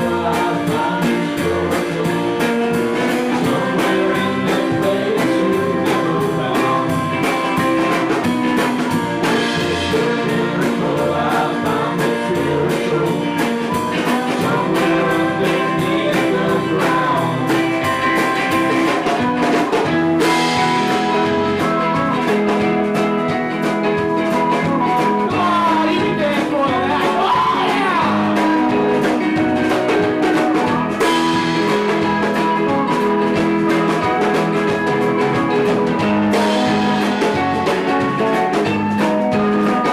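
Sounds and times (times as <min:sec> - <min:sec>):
person singing: 0:00.0 - 0:19.6, 0:25.2 - 0:35.4, 0:36.3 - 0:39.9
drum kit beat: 0:00.0 - 0:39.9
live rock band playing: 0:00.0 - 0:39.9.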